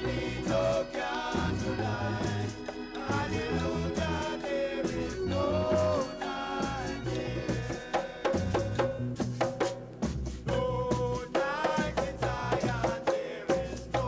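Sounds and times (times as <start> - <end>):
reggae music over sound system: 0.0 - 13.1.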